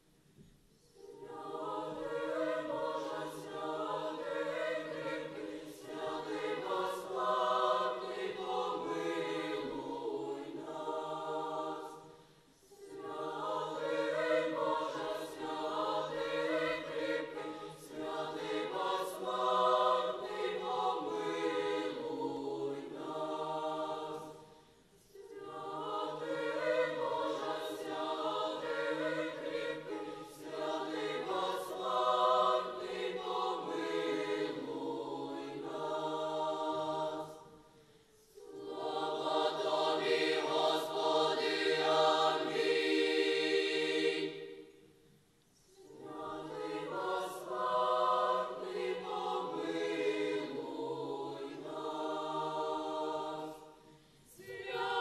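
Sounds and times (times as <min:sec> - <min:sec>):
children's choir singing: 0:00.9 - 0:44.9, 0:45.7 - 0:55.0.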